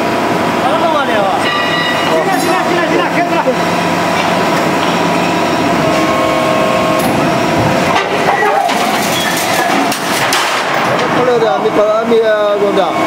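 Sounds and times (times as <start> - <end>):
hydraulic shear mechanical noise: 0.0 - 13.0
steady tones: 0.0 - 13.0.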